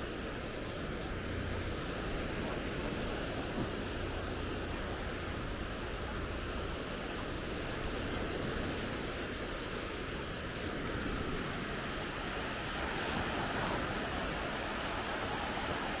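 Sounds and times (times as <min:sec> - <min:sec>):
surf washing onto sandy beach: 0:00.0 - 0:16.0
wind: 0:00.0 - 0:16.0.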